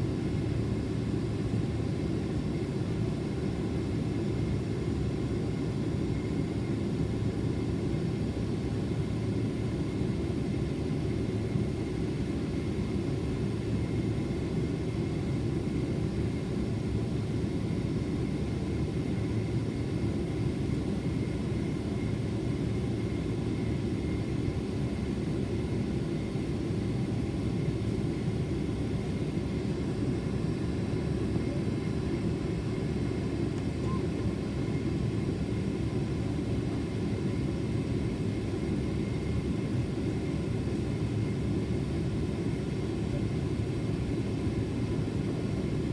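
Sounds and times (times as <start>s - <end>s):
airliner cabin engine rumble: 0.1s - 45.9s.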